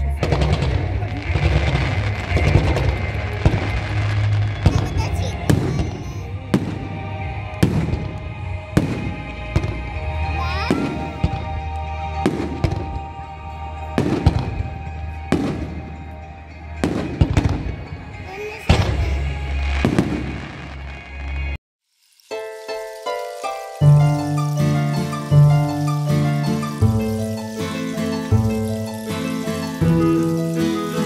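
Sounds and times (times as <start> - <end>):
fireworks bursting with echo: 0.0 - 31.0.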